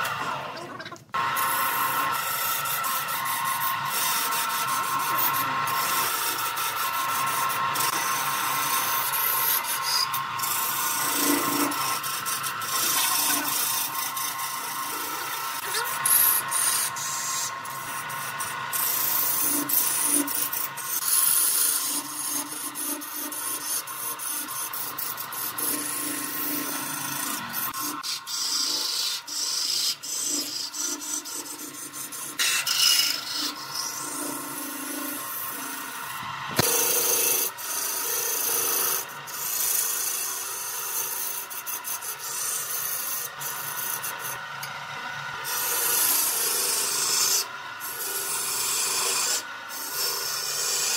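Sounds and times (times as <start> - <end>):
lathe motor hum: 0.0 - 0.6, 1.2 - 50.9
turning tool rasping on wood: 1.2 - 44.8, 45.4 - 50.9.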